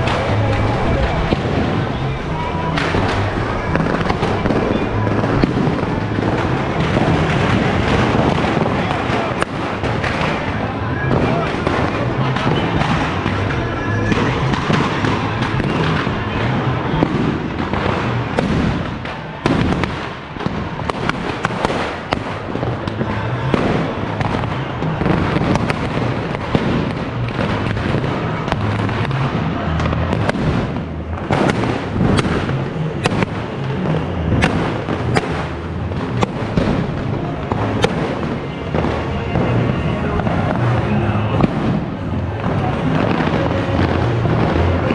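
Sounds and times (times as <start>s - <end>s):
fireworks cracking and banging: 0.0s - 44.9s
music playing: 0.0s - 44.9s.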